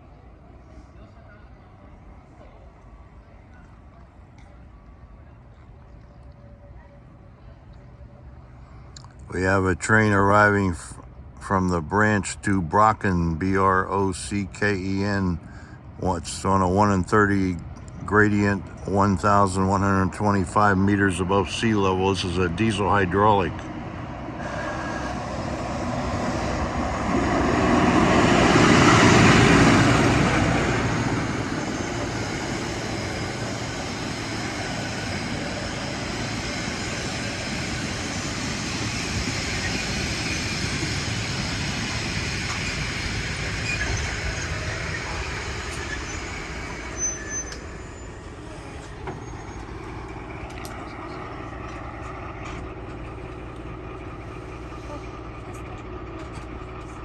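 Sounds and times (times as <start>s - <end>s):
diesel locomotive passing: 0.0s - 57.0s
train carriages rumbling past: 0.0s - 57.0s.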